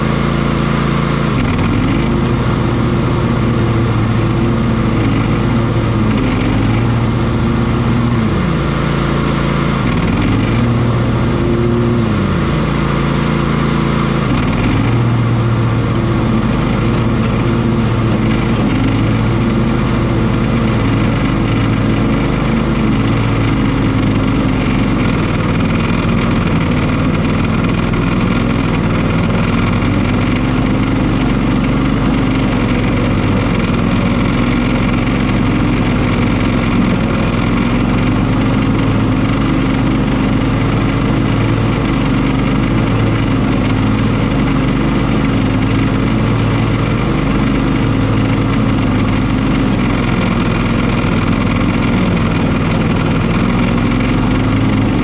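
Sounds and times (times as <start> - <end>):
riding lawn mower engine: 0.0 - 55.0.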